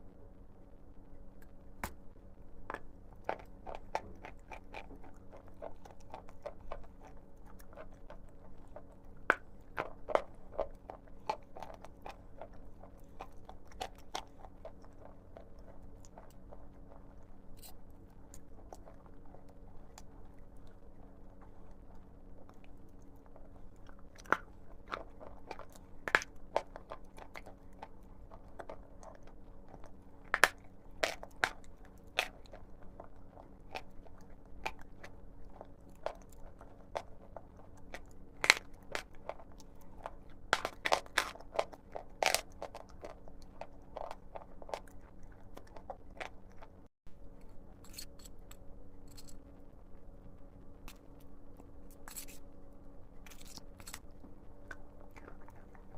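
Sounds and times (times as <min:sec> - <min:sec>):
faint steady hum: 0:00.0 - 0:55.9
chalk crunching while chewed: 0:02.6 - 0:55.9.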